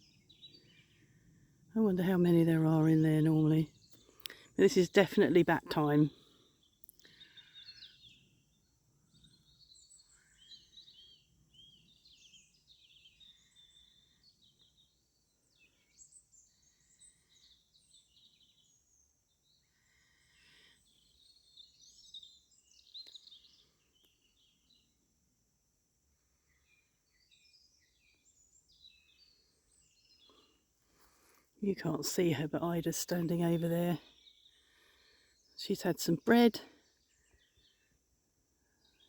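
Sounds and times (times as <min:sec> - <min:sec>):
songbirds chirping: 0:00.0 - 0:25.3, 0:26.0 - 0:39.0.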